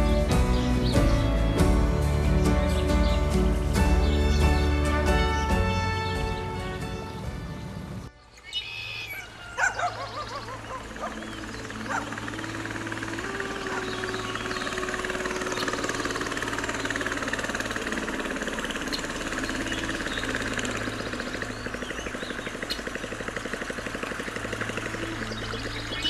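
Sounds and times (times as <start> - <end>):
motorboat engine running: 0.0 - 8.1, 8.8 - 26.0.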